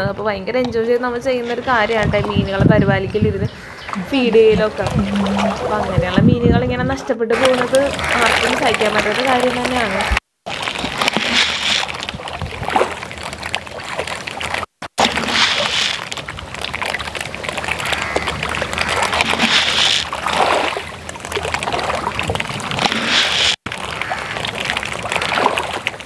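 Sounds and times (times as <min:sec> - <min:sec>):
water splashing: 0:00.8 - 0:26.0.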